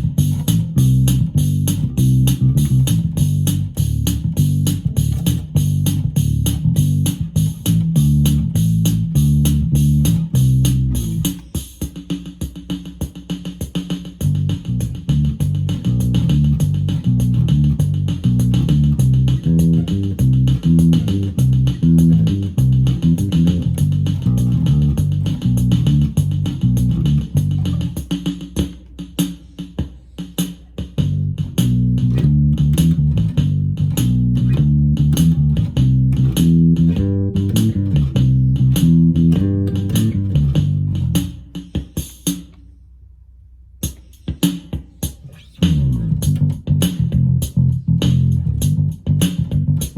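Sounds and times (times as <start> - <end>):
electric bass guitar bassline: 0.0 - 11.4, 14.2 - 28.0, 31.0 - 41.4, 45.3 - 49.9
drum machine pattern: 0.0 - 42.6, 43.8 - 49.9.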